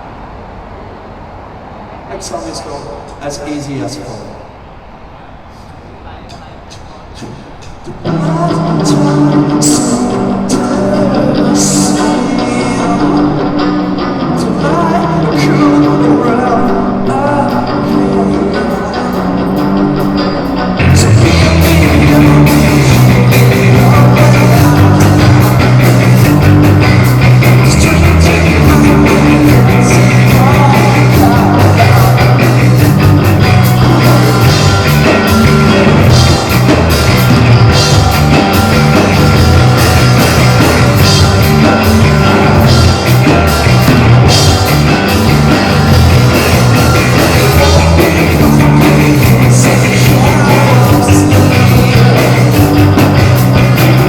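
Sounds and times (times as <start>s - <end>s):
live rock band playing: 8.1s - 54.0s.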